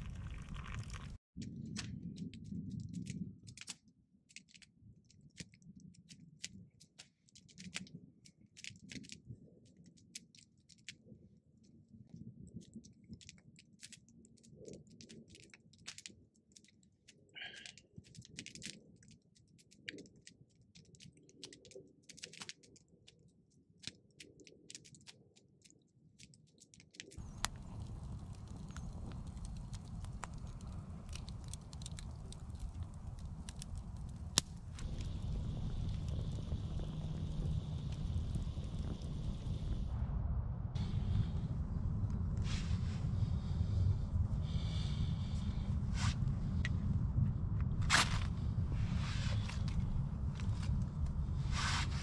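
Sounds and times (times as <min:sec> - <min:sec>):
low rumble of flames: 0:00.0 - 0:03.9, 0:04.7 - 0:22.9, 0:27.1 - 0:52.0
campfire crackling and popping: 0:00.0 - 0:11.2, 0:11.9 - 0:52.0.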